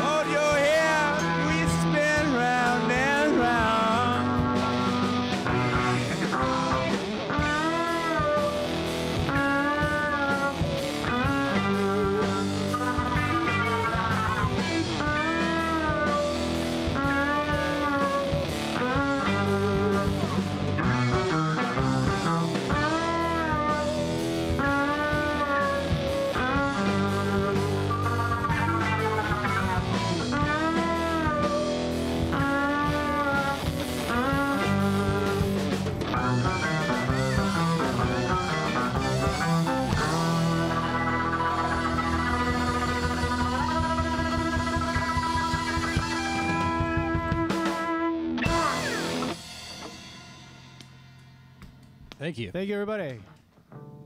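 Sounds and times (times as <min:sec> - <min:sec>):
bowed electric upright bass: 0:00.0 - 0:47.5
bending guitar lead line: 0:00.0 - 0:51.0
electric guitars: 0:00.0 - 0:52.2
drum kit: 0:00.0 - 0:54.0.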